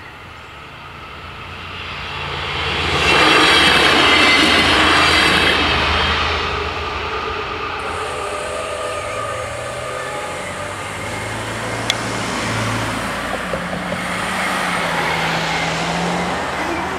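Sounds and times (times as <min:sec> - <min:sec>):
cars pulling away: 0:00.0 - 0:16.9.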